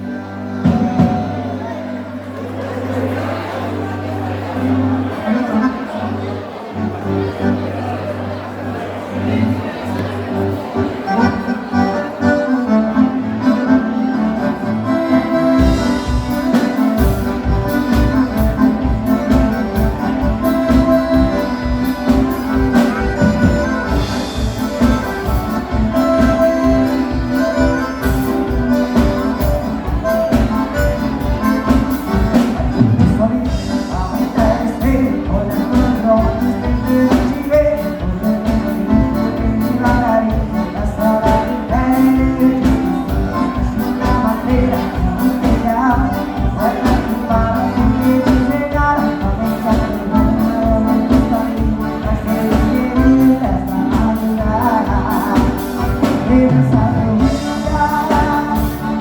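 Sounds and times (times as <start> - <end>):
person singing: 0.0 - 3.0, 11.0 - 59.0
accordion dance-band music: 0.0 - 59.0.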